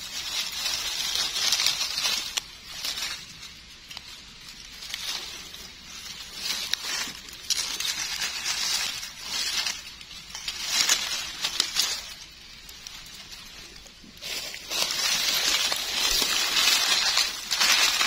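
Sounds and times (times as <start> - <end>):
dry leaves crackling and rustling: 0.0 - 18.0.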